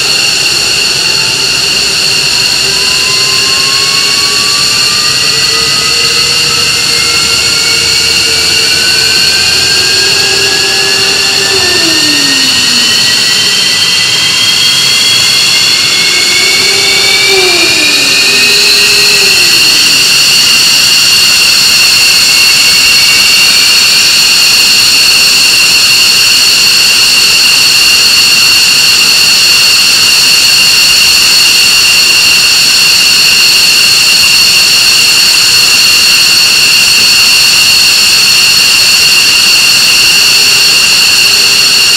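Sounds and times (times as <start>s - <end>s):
jet engine whine spooling up: 0.0s - 41.9s.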